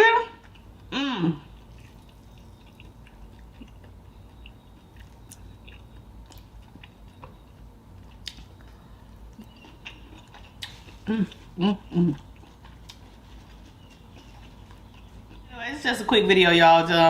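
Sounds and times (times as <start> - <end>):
person chewing seafood: 0.4 - 15.5.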